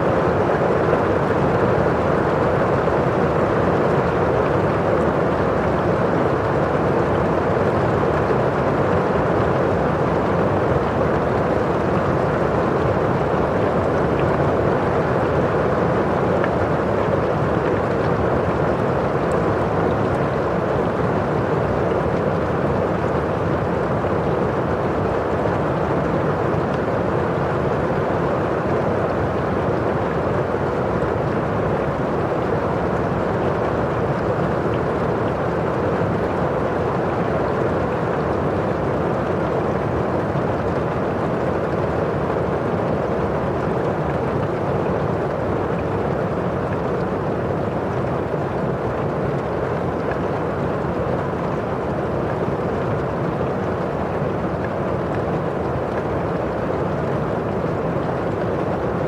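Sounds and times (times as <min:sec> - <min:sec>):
rain on a windowpane: 0:00.0 - 0:59.0.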